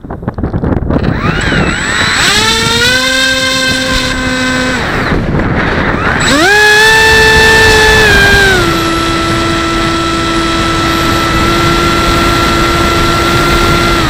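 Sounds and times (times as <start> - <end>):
electric model plane motor whining: 1.0 - 14.0.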